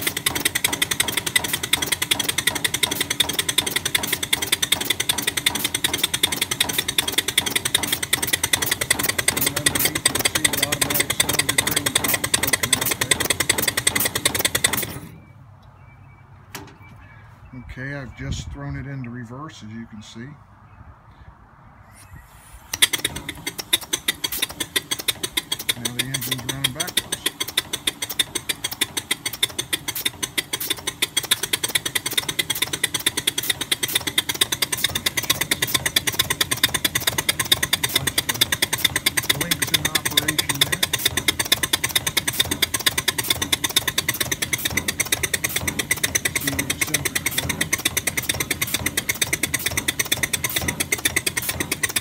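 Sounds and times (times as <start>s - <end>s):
rods and valve gear clatter: 0.0s - 15.3s, 22.4s - 52.0s
air engine exhaust beats: 0.0s - 18.9s, 21.9s - 52.0s.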